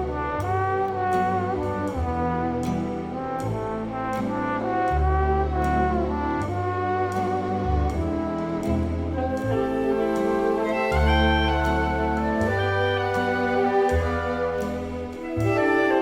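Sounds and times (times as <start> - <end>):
brass chords: 0.0 - 16.0
light percussion: 0.0 - 16.0.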